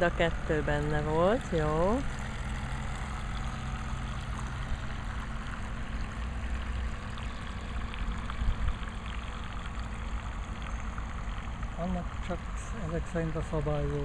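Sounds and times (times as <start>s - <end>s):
model boat electric motor humming: 0.0s - 14.0s.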